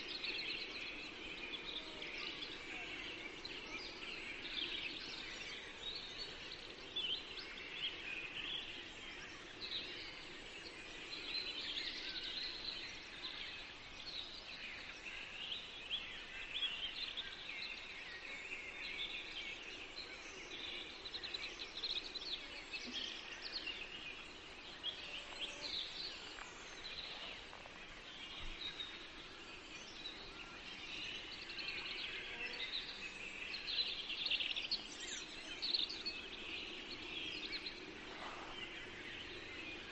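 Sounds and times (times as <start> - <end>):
soft forest background: 0.0 - 39.9
songbirds chirping and singing: 0.0 - 39.9.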